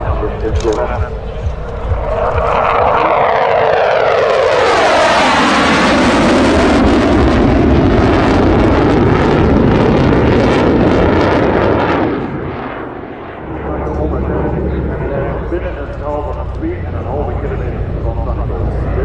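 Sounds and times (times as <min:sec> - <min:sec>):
jet aircraft flying low past: 0:00.0 - 0:19.0.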